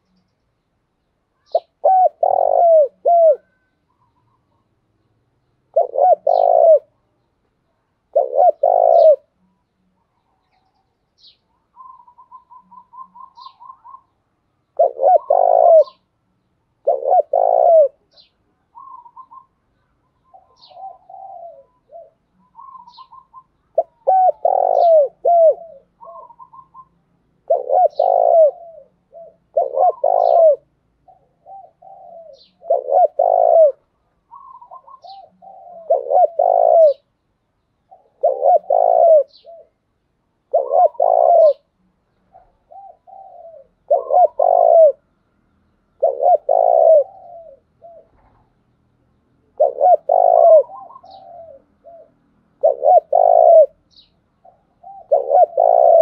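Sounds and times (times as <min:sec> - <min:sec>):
dove cooing: 0:01.4 - 0:04.6, 0:05.7 - 0:07.0, 0:08.0 - 0:09.5, 0:11.2 - 0:16.1, 0:16.8 - 0:37.1, 0:37.9 - 0:45.1, 0:45.9 - 0:48.6, 0:49.5 - 0:56.0.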